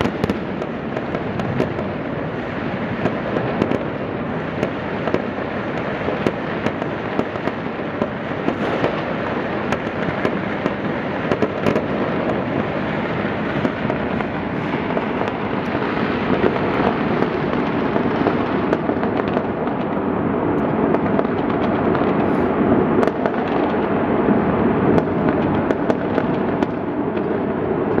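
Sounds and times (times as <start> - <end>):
sharp firework bangs: 0.0 - 20.0, 20.7 - 28.0
fireworks crackling: 0.0 - 28.0.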